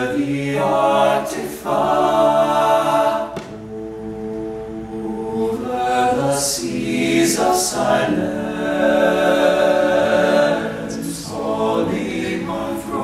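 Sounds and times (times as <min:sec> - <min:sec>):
hissed consonants: 0:00.0 - 0:13.0
men's a cappella group singing: 0:00.0 - 0:13.0.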